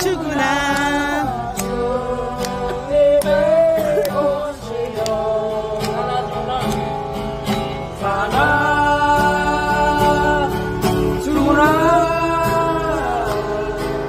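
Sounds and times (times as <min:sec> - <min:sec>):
man singing: 0:00.0 - 0:07.2, 0:07.8 - 0:14.0
acoustic guitar strumming: 0:00.0 - 0:14.0.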